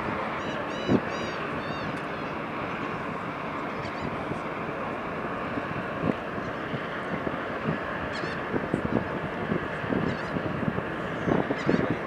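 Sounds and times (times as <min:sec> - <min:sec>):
wind noise on microphone: 0:00.0 - 0:03.2, 0:05.5 - 0:12.0.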